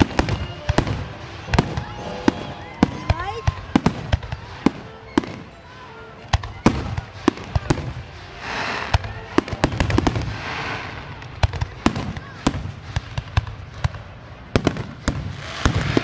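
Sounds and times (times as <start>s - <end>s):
firework shells bursting: 0.0s - 16.0s
fireworks crackling: 0.0s - 16.0s.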